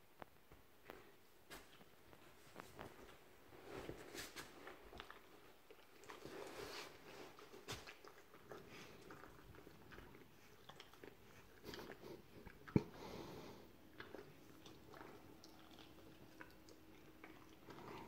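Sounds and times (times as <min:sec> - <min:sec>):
faint chewing and mouthing: 0:00.1 - 0:18.0
small wet clicks and rustles: 0:00.2 - 0:13.0, 0:13.6 - 0:18.0.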